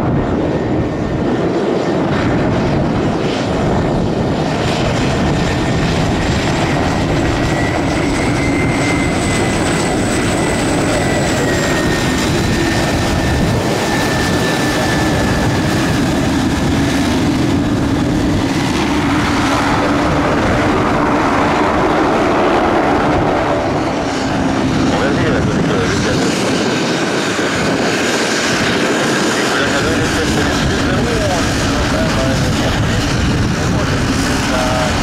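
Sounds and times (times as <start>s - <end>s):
turboprop plane taxiing: 0.0s - 35.0s.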